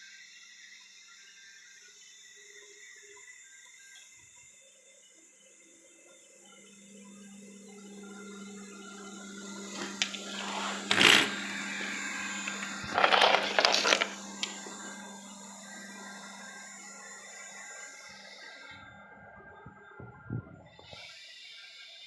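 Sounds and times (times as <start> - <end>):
robot vacuum motor hum: 1.2 - 22.0.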